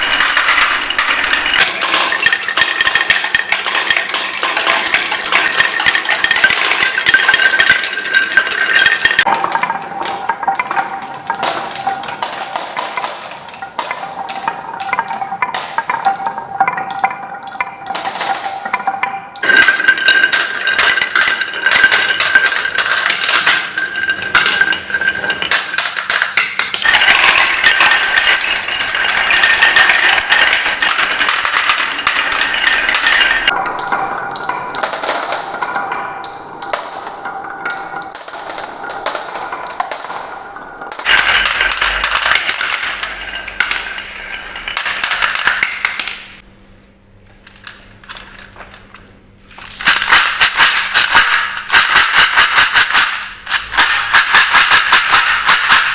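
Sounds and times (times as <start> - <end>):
marbles rattling down wooden run: 0.0 - 33.6, 40.9 - 46.4, 49.6 - 55.9.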